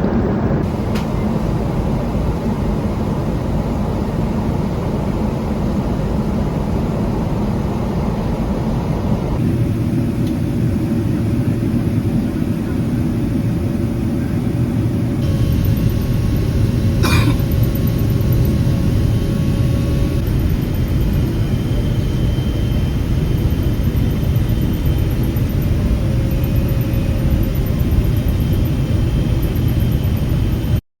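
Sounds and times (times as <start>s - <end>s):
airplane cabin engine rumble: 0.0s - 30.8s.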